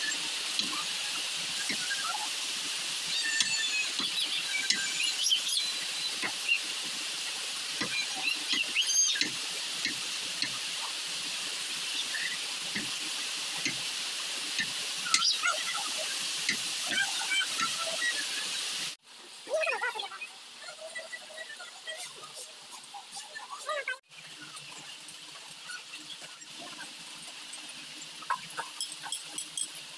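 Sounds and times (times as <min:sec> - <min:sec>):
steady high hiss: 0:00.0 - 0:29.9.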